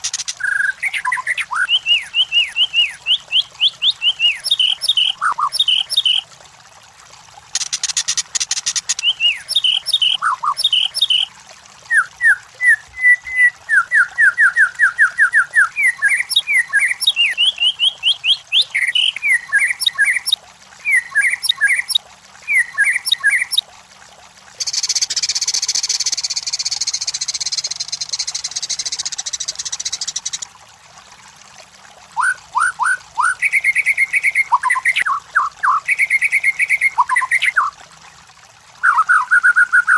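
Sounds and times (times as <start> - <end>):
bird singing whistled notes and trills: 0.0 - 6.2, 7.6 - 11.3, 11.9 - 23.6, 24.6 - 30.4, 32.2 - 37.7, 38.8 - 39.9.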